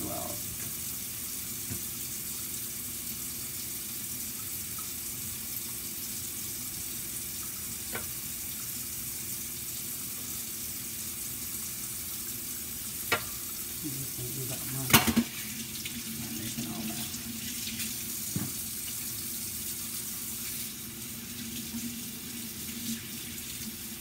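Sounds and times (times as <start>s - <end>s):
air fryer fan whirring: 0.0s - 2.4s, 6.6s - 24.0s.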